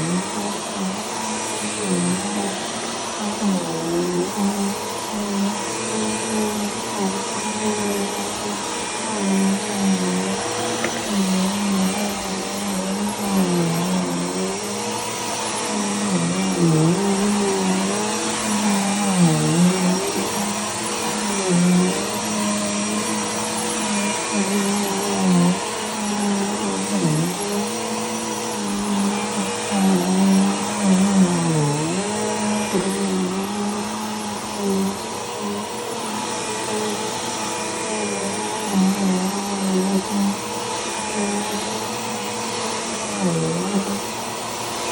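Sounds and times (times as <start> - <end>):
upright vacuum cleaner running: 0.0 - 44.9.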